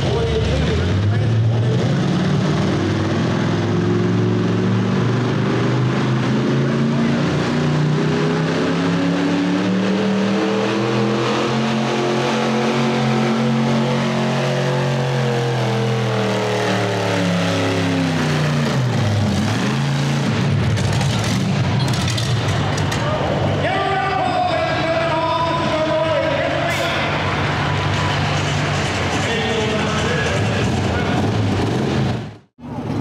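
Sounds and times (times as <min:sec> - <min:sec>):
truck engine revving high: 0:00.0 - 0:33.0.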